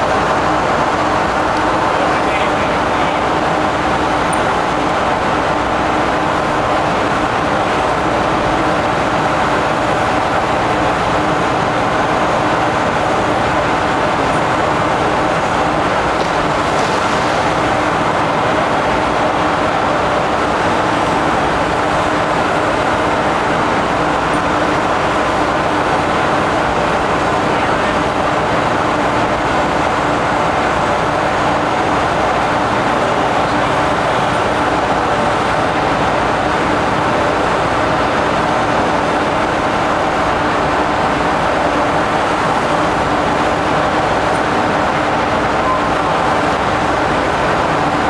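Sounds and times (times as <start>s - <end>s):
ship machinery drone: 0.0s - 48.0s.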